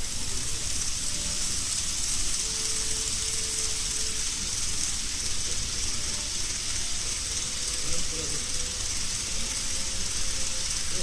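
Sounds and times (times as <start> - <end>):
model train running on track: 0.0 - 11.0.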